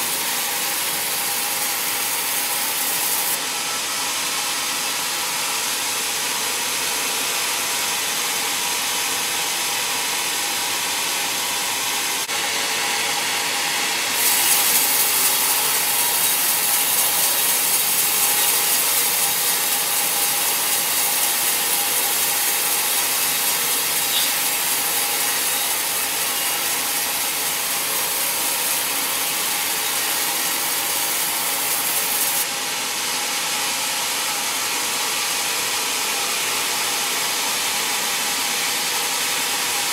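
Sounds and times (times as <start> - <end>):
band saw cutting log: 0.0 - 33.6.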